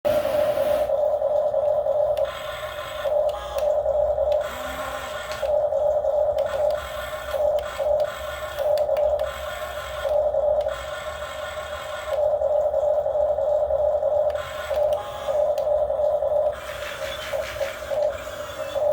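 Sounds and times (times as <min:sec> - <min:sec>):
electric motor whining: 0:00.2 - 0:18.9.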